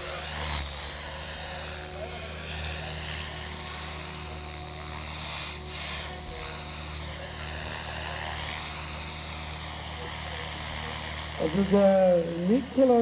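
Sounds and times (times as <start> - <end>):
model helicopter rotor whine: 0.0 - 13.0.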